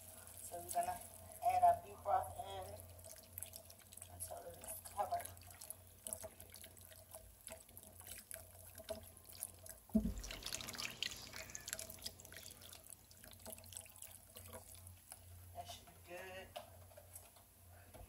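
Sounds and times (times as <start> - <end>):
broth pouring into pot: 0.0 - 15.6.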